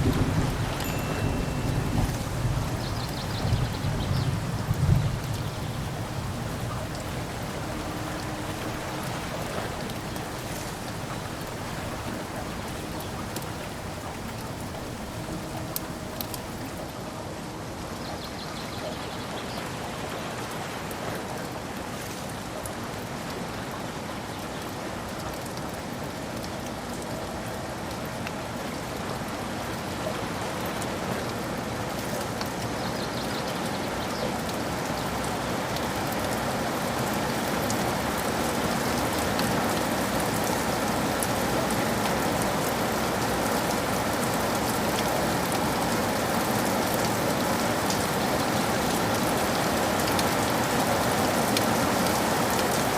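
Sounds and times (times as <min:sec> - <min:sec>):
rain pattering: 0:00.0 - 0:17.8, 0:20.4 - 0:52.9.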